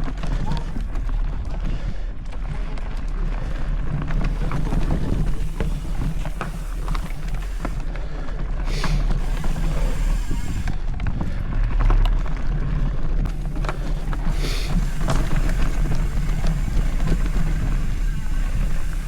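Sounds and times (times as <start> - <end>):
bike clicks and rattles: 0.0 - 19.0.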